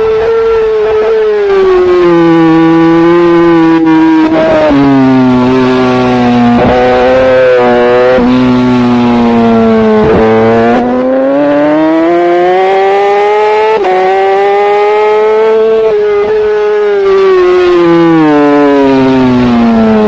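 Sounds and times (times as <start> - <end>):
motorbike engine at high revs: 0.0 - 20.0.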